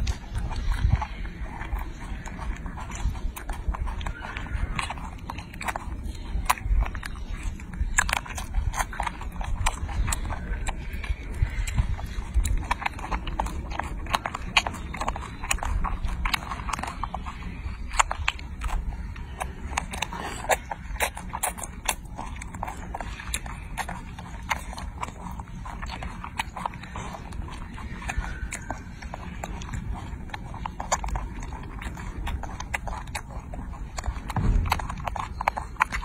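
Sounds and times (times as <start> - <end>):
monkey chewing wet smacking: 0.0 - 36.0.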